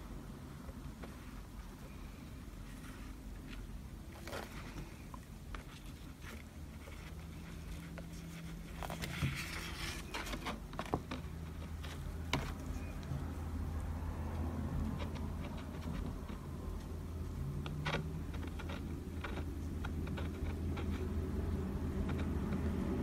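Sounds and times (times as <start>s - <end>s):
steady low hum: 0.0s - 23.0s
brush tapping and dabbing: 0.6s - 23.0s.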